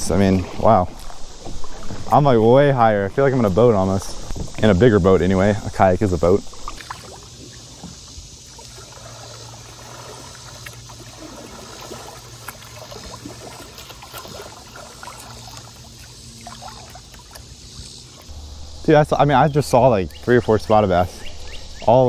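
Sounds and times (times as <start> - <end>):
kayak paddle splashes: 0.0 - 22.0
river water trickling and lapping: 0.0 - 22.0.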